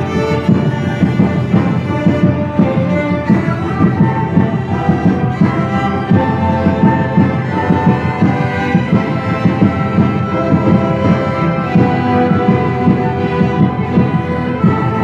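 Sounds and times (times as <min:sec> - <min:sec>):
bowed string instrument: 0:00.0 - 0:15.0
orchestra playing: 0:00.0 - 0:15.0.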